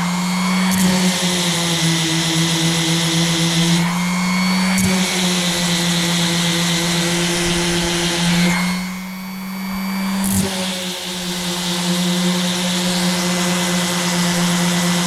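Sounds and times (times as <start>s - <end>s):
orbital sander running: 0.0s - 15.0s.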